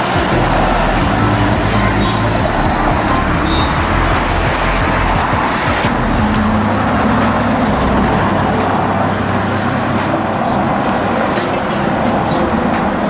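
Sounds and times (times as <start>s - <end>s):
low vehicle engine note: 0.0s - 13.0s
vehicle engines and tyre noise: 0.0s - 13.0s.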